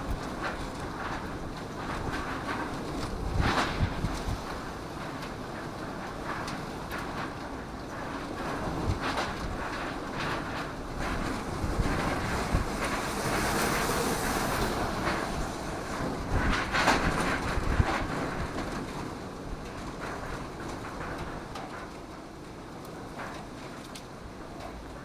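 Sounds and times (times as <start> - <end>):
strong wind gusting: 0.0 - 21.6
heavy rain: 0.0 - 25.0
wind buffeting microphone: 0.0 - 25.0.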